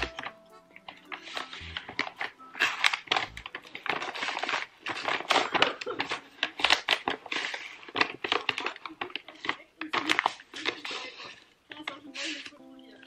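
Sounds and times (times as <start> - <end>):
paper envelopes rustling and crinkling: 0.0 - 12.6.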